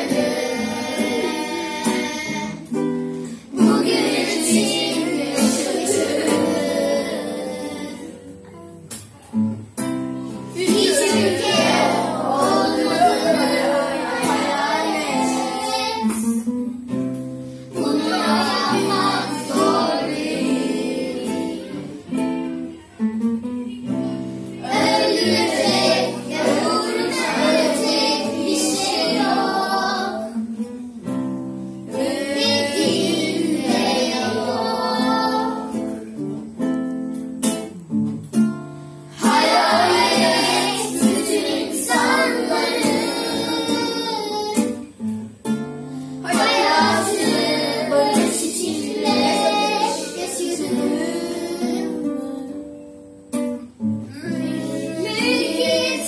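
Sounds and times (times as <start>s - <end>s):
children singing: 0.0s - 9.1s, 10.2s - 16.5s, 17.6s - 22.6s, 23.8s - 30.6s, 31.9s - 36.2s, 39.1s - 45.0s, 46.0s - 52.9s, 54.1s - 56.0s
acoustic guitar: 0.0s - 56.0s.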